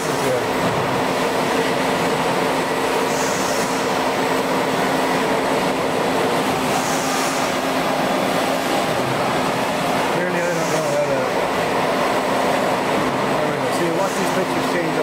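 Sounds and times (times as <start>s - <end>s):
production-line machinery hum: 0.0s - 15.0s.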